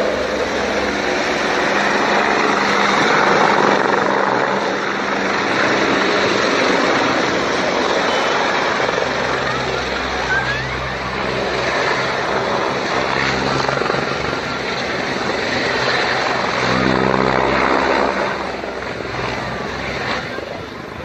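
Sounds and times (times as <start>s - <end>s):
helicopter rotor and turbine noise: 0.0s - 21.0s.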